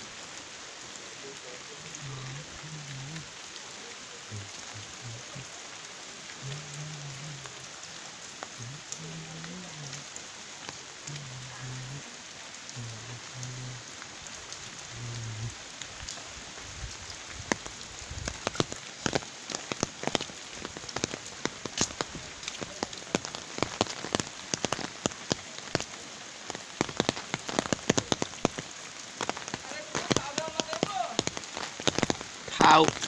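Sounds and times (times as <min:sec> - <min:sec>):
rain hiss: 0:00.0 - 0:33.0
raindrop taps: 0:04.3 - 0:12.0, 0:12.7 - 0:33.0.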